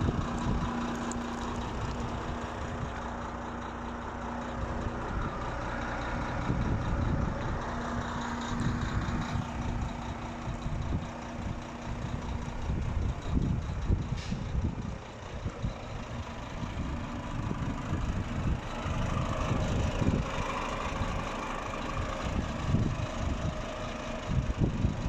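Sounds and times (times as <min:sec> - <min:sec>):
wind buffeting microphone: 0:00.0 - 0:03.2, 0:04.5 - 0:25.0.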